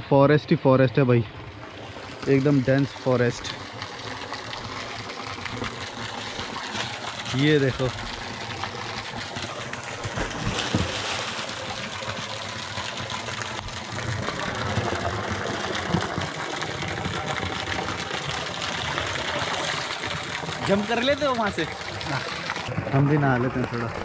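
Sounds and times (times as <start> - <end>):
water rushing in pool: 1.3 - 24.0.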